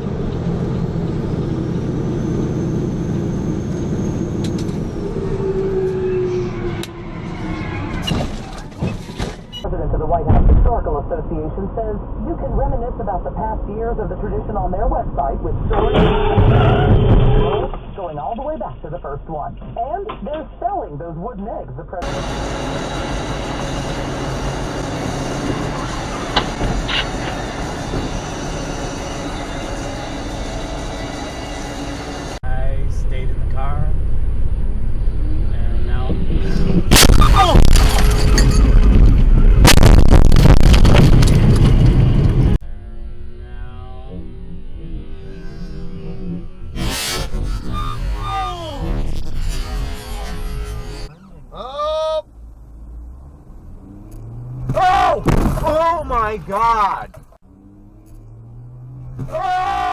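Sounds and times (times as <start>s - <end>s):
road noise: 0.0s - 18.8s, 22.0s - 59.9s
vehicle engine drone: 0.0s - 20.2s, 21.6s - 59.9s.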